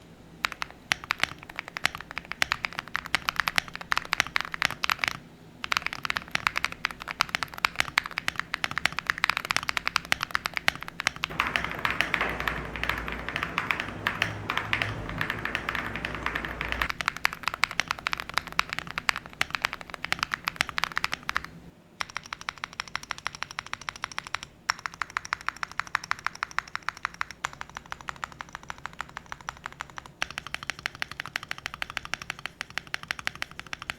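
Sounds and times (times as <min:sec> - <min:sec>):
mechanical keyboard keystroke clacks: 0:00.4 - 0:33.9.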